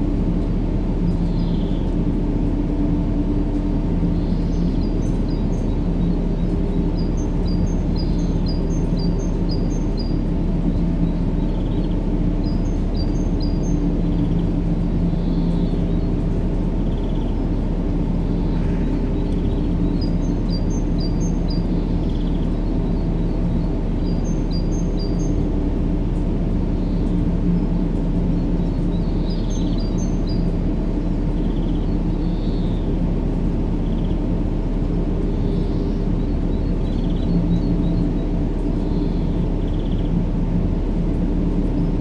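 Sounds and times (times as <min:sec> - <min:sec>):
low-pitched sleep noise hum: 0:00.0 - 0:42.0.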